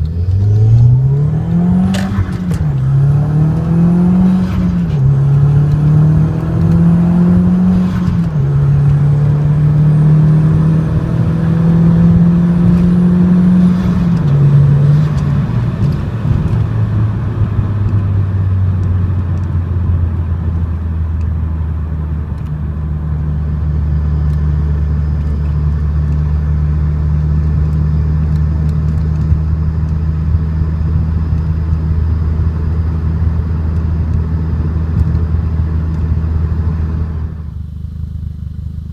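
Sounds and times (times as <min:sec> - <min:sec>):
car engine revving through exhaust: 0:00.0 - 0:38.9.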